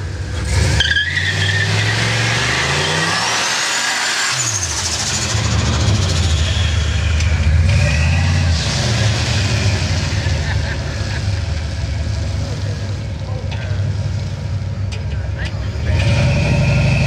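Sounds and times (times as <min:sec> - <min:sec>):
car engine revving hard: 0:00.0 - 0:13.0, 0:15.8 - 0:17.0
tyres spinning in a burnout: 0:00.0 - 0:14.2.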